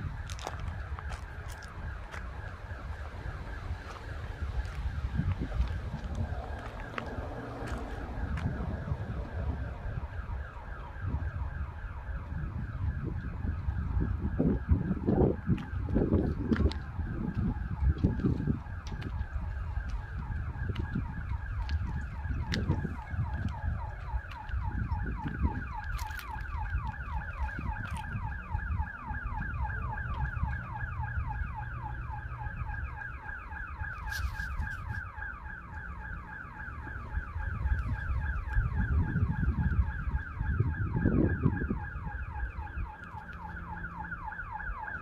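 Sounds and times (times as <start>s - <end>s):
warbling electronic alarm: 0.0s - 45.0s.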